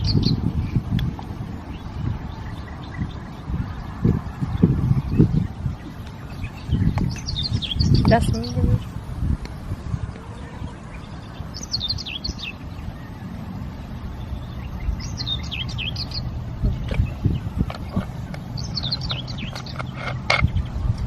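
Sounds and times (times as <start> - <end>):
songbird singing falling notes: 0.0 - 13.3, 14.2 - 20.8
steady low rumble: 0.0 - 21.0.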